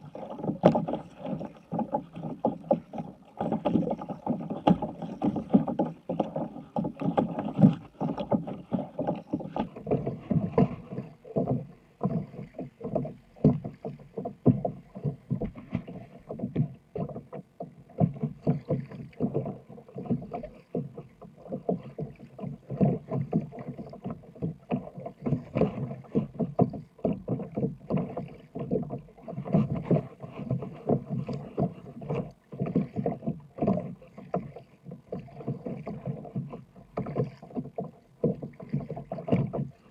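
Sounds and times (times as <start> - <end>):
paddle splashing and knocking: 0.0 - 39.9
small waves slapping hull: 0.0 - 39.9.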